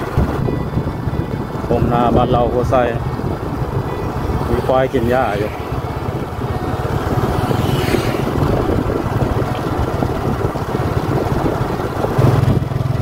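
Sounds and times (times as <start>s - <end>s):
road noise: 0.0s - 13.0s
vehicle engine running: 0.0s - 13.0s
wind noise: 0.0s - 13.0s.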